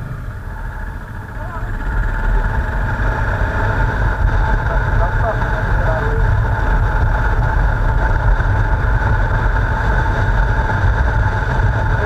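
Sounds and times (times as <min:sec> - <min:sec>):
motorcycle engine drone: 0:00.0 - 0:12.0
rushing wind: 0:00.0 - 0:12.0.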